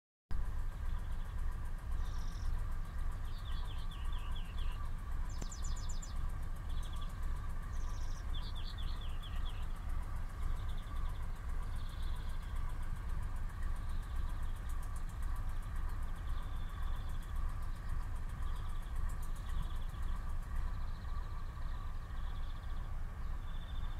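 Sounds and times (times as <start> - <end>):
steady low rumble: 0.3 - 23.9
faint even hum: 0.4 - 23.9
small bird singing trills: 0.4 - 23.9.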